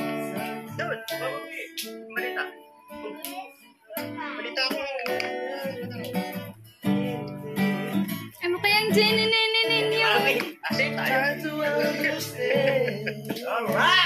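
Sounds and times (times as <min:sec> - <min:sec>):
man singing: 0:00.0 - 0:03.3, 0:04.2 - 0:14.0
acoustic guitar strumming: 0:00.0 - 0:14.0.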